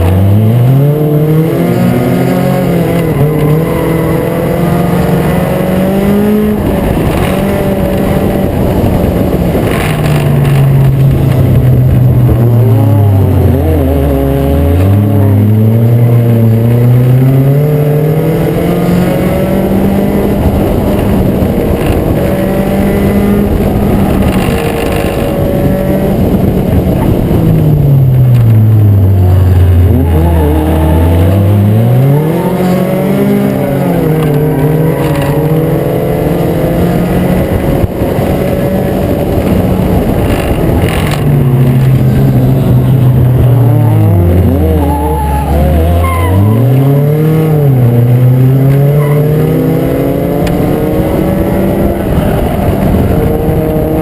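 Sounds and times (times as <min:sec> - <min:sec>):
other race car engines: 0:00.0 - 0:54.0
race car engine at high revs: 0:00.0 - 0:54.0.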